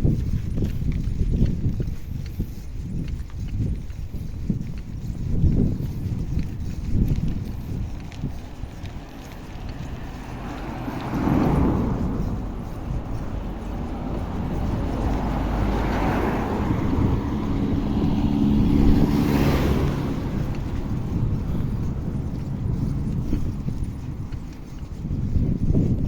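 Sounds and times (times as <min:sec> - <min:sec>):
low traffic rumble: 0:00.0 - 0:26.0
vehicle engine and tyre noise: 0:00.0 - 0:26.0.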